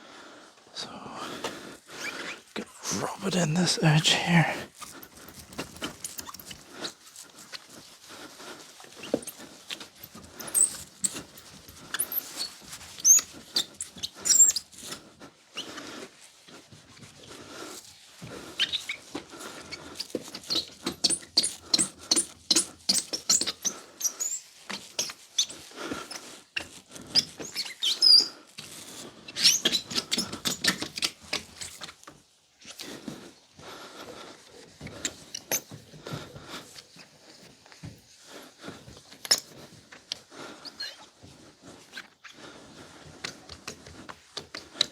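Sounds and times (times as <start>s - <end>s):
scrubbing with squeaks: 1.8s - 3.6s, 4.2s - 44.9s.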